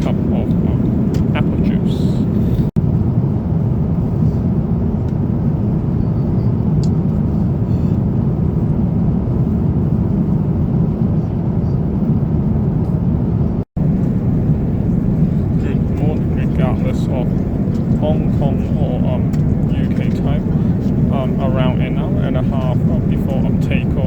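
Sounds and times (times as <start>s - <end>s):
airliner cabin noise: 0.0s - 24.0s.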